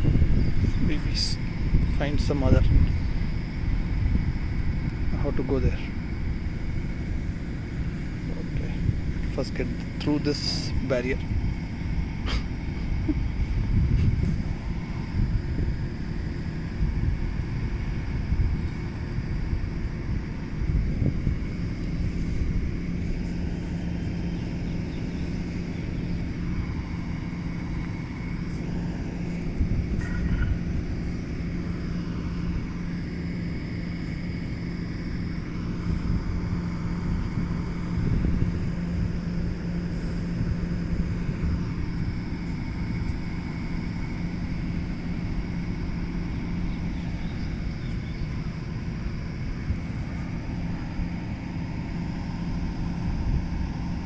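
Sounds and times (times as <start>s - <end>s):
road and wind noise: 0.0s - 54.0s
vehicle engine hum: 0.0s - 54.0s.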